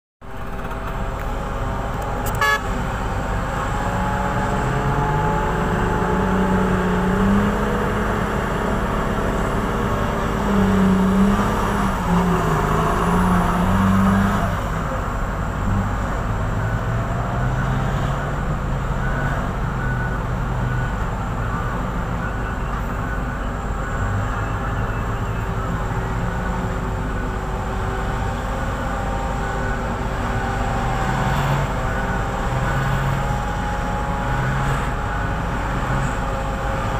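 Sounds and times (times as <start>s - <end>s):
heavy diesel engines revving: 0.2s - 36.9s.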